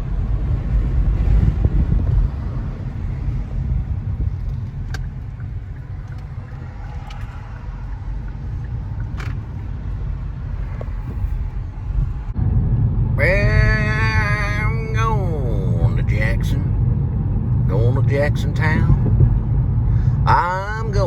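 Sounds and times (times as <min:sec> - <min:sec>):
road and wind noise in car: 0:00.0 - 0:21.0.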